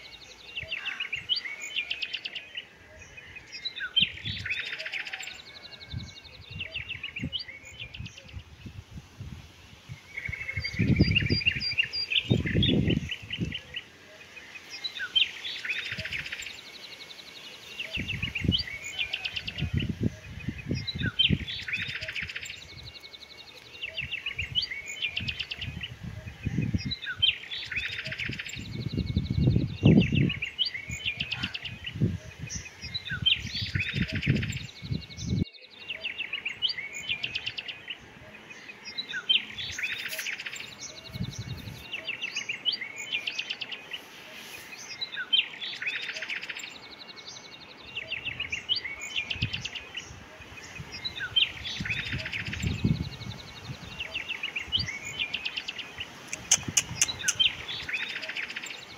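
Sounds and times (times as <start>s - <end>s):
small birds trilling: 0.0s - 58.9s.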